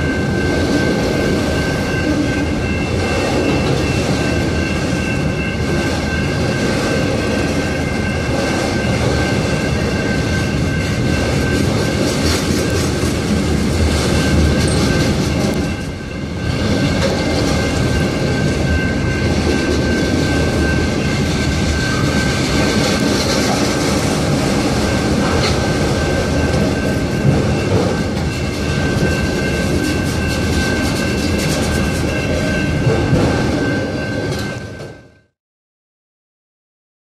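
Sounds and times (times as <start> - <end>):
train wheels rumbling on rails: 0.0 - 35.4.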